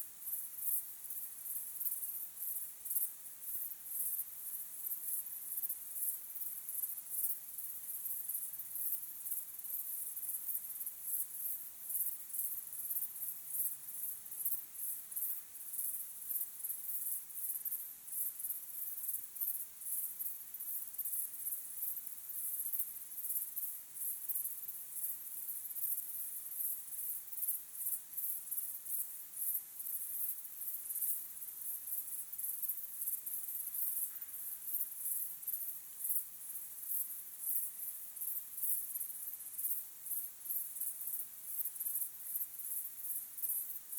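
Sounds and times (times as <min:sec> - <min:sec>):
crickets chirping: 0:00.2 - 0:43.9.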